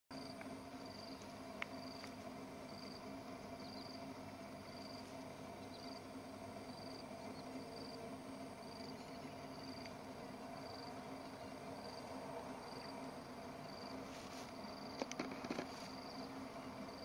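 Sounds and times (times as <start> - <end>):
insect chirping: 0.1 - 17.0
steady low hum: 0.1 - 17.0.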